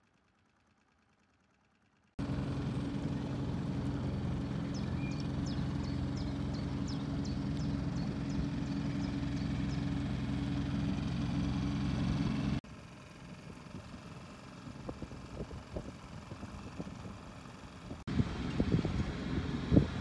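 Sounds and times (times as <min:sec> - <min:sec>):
outboard motor running: 0:00.2 - 0:20.0.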